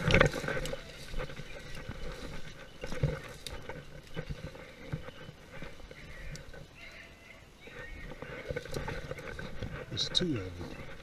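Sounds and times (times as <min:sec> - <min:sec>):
footsteps through dry grass: 0:00.0 - 0:11.0
grass brushing against legs: 0:00.0 - 0:11.0.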